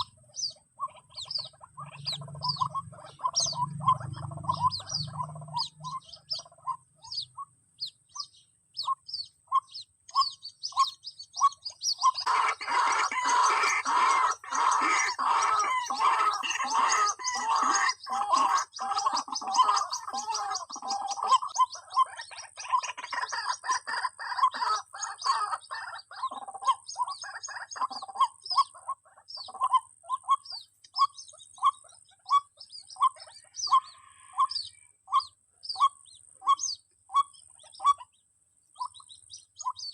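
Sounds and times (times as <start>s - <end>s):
bird chicks peeping: 0.0s - 39.9s
high chirps: 0.0s - 39.9s.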